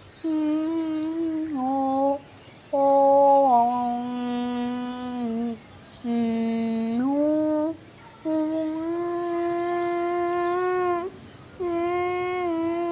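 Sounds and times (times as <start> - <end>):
person humming: 0.2 - 2.2, 2.8 - 12.9.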